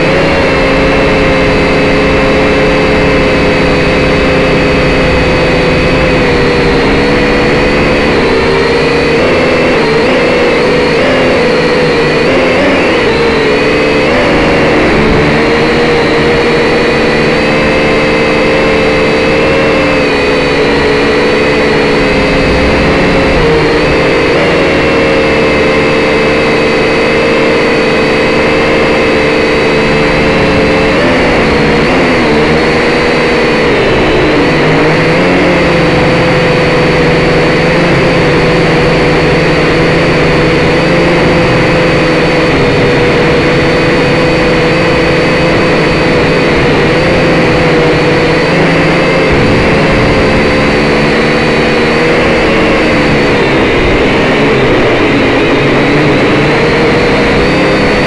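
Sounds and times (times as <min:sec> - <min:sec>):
drone propellers whining: 0:00.0 - 0:58.0.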